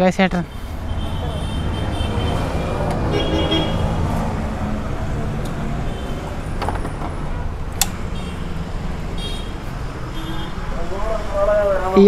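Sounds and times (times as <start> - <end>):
vehicle engine rumbling: 0.1 - 12.0.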